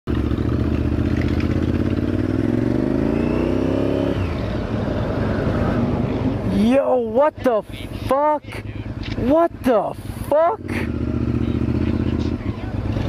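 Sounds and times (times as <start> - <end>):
motorcycle engine revving: 0.1 - 13.0.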